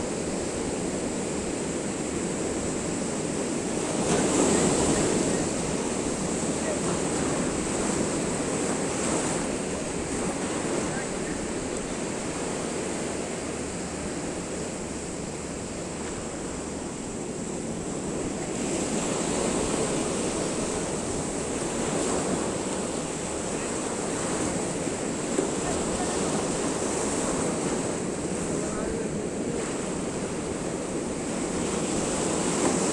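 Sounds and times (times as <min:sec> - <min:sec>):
sea surf breaking against seawall: 0:00.0 - 0:32.9.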